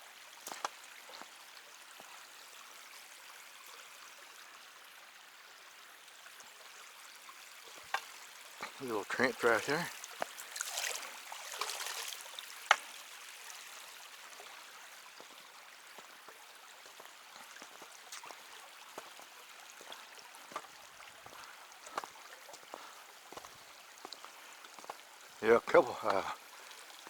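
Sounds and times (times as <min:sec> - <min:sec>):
small stream trickling: 0:00.0 - 0:27.0.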